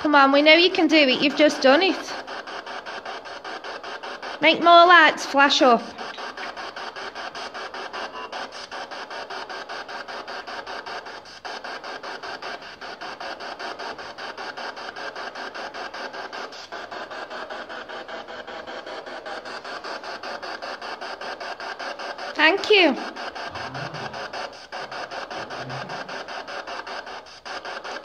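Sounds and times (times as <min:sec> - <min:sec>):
pulsing radio static: 0:00.0 - 0:28.0.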